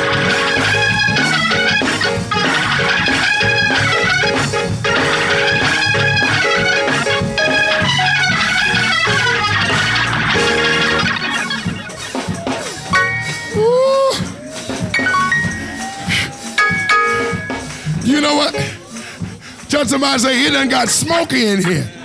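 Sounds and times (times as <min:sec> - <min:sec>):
gospel band playing live: 0:00.0 - 0:22.0
organ: 0:00.0 - 0:22.0.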